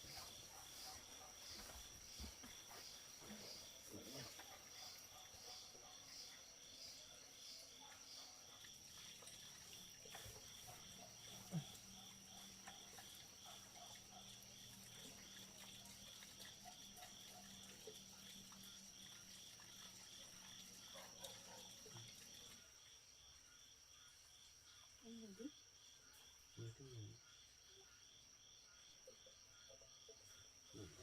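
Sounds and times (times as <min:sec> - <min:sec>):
insect trill: 0:00.0 - 0:31.0
pulsing insect chirp: 0:00.0 - 0:31.0.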